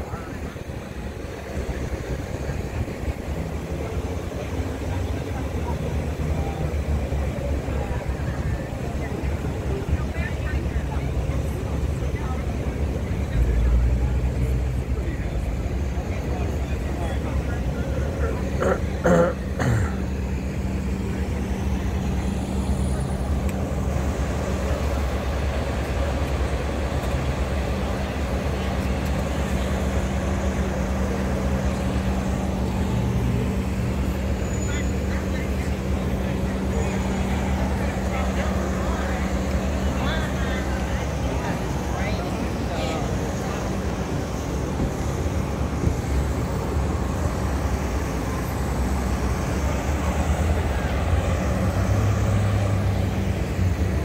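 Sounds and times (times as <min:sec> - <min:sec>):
low engine hum: 0:00.0 - 0:54.0
street traffic: 0:00.0 - 0:54.0.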